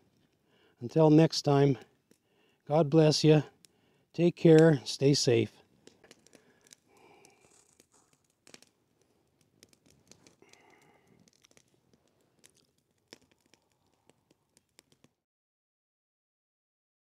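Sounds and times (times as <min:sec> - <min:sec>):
campfire crackling and popping: 0:00.0 - 0:15.2.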